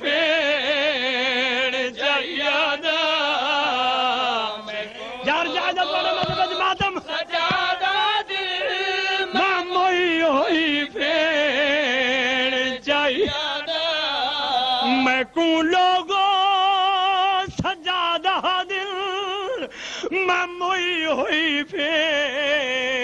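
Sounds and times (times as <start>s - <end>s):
man chanting a lament: 0.0s - 23.0s.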